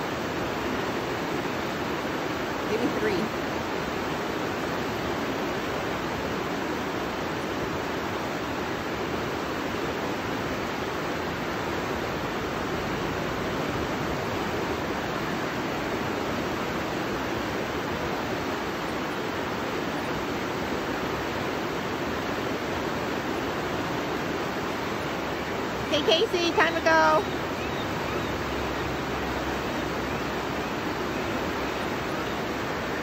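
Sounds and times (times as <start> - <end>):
river rapids rushing: 0.0 - 33.0.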